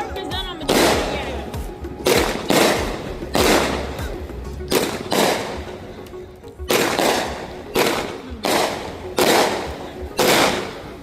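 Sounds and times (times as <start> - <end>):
fireworks bangs: 0.6 - 5.8, 6.7 - 11.0.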